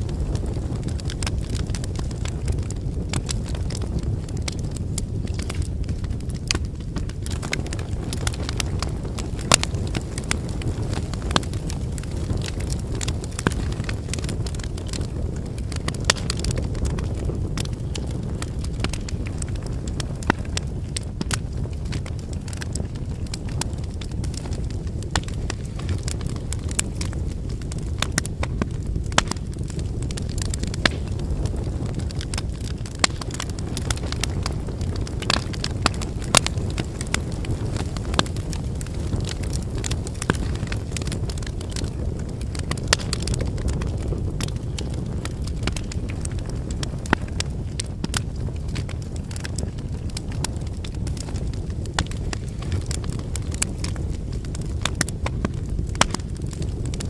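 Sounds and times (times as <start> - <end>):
firewood crackling and popping: 0.0 - 57.0
low rumble of flames: 0.0 - 57.0.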